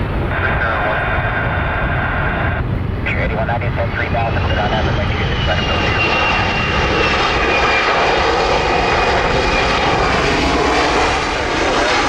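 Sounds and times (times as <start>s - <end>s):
airliner engines roaring: 0.0s - 12.0s.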